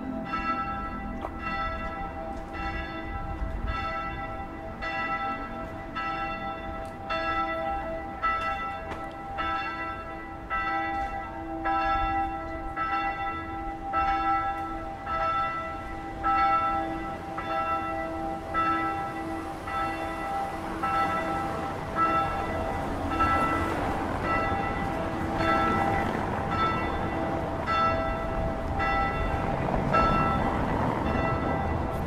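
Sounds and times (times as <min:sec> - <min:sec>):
church bells ringing: 0:00.0 - 0:32.0.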